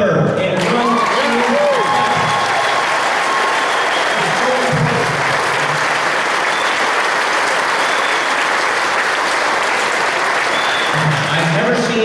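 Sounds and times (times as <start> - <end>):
crowd applauding: 0.3 - 12.0.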